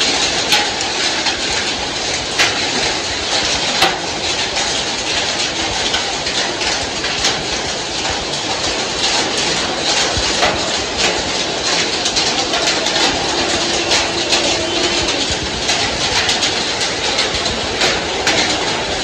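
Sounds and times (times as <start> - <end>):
heavy rain on pavement: 0.0 - 19.0
raindrops ticking: 0.0 - 19.0.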